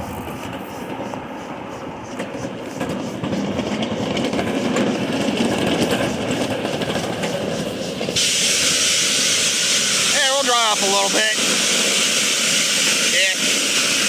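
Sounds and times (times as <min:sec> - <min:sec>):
loud steady steam hiss: 0:00.0 - 0:14.0
train wheels clicking over rail joints: 0:00.0 - 0:14.0.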